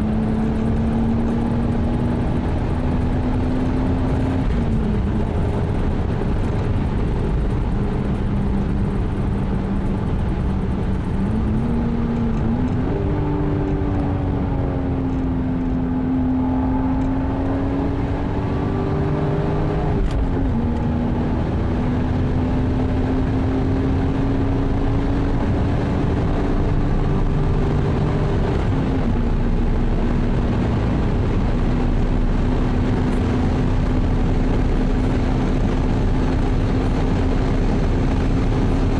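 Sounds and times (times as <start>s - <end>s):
car engine running at speed: 0.0s - 38.9s
road and wind noise: 0.0s - 38.9s.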